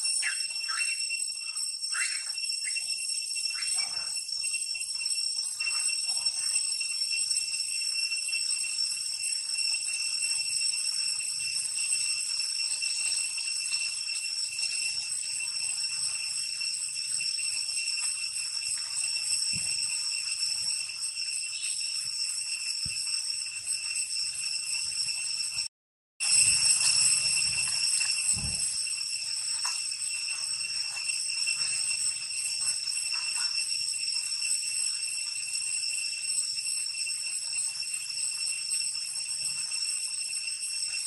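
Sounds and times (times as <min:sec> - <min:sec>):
high-pitched insect drone: 0:00.0 - 0:41.0.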